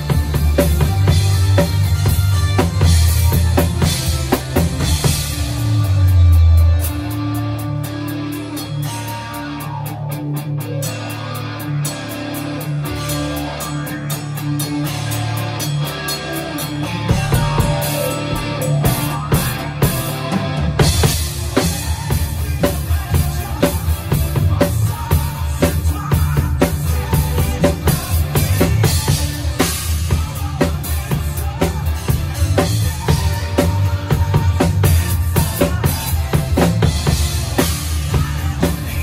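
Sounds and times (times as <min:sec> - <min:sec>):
acoustic drum kit playing: 0:00.0 - 0:39.0
melodic rock song: 0:00.0 - 0:39.0.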